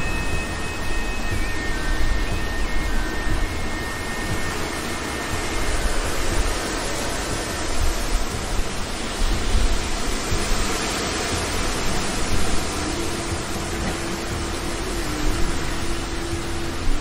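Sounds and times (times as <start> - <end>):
broad rushing noise: 0.0 - 17.0
uneven low rumble: 0.0 - 17.0.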